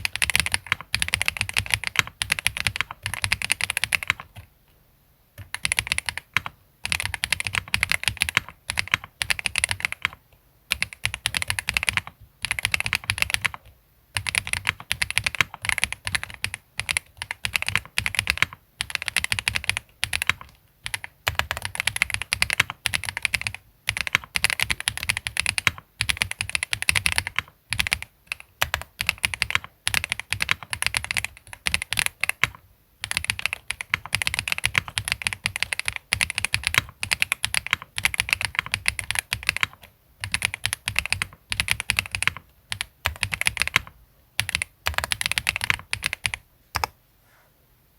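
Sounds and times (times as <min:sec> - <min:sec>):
fast typing on mechanical keyboard: 0:00.0 - 0:04.5, 0:05.4 - 0:46.9.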